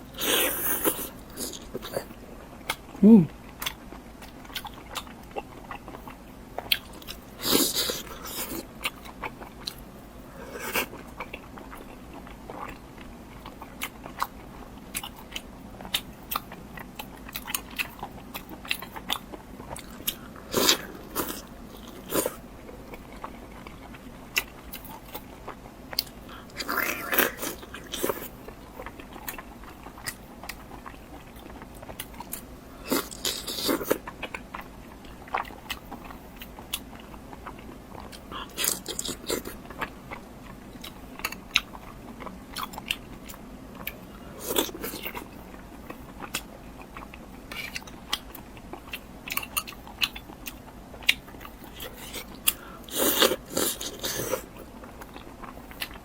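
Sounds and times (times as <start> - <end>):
wet chewing: 0.2 - 56.0.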